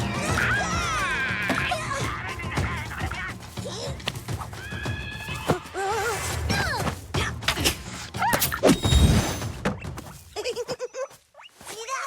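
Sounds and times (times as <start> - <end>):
cartoon background music: 0.0 - 11.6.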